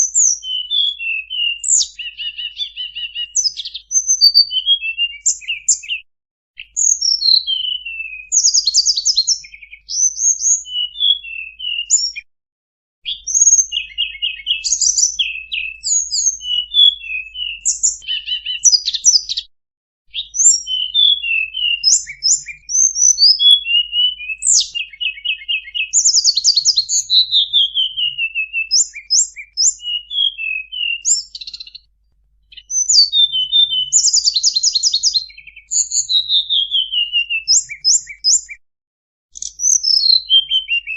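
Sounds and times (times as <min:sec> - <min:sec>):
bird chirps trills and whistles: 0:00.0 - 0:12.3, 0:13.0 - 0:19.5, 0:20.1 - 0:31.9, 0:32.5 - 0:38.6, 0:39.3 - 0:40.9.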